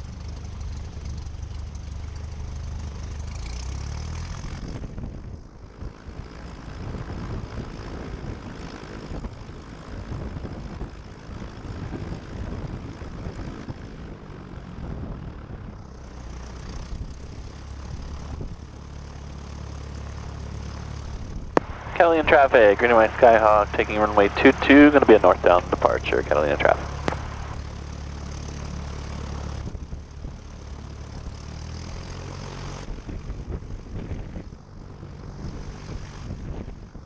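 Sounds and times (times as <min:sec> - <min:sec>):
propeller plane engine running: 0:00.0 - 0:37.0.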